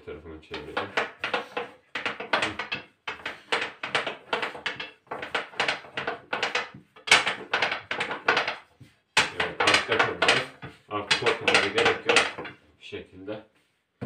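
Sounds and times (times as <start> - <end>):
rolling pin knocking on dough: 0.5 - 12.6.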